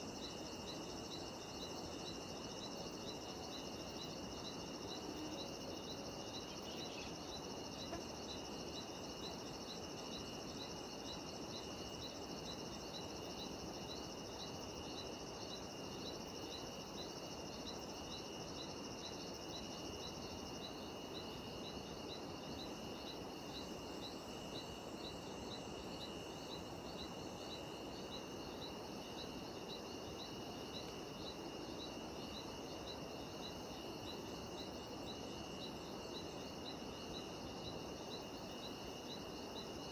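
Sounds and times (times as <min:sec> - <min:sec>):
pulsing insect chirp: 0:00.0 - 0:39.9.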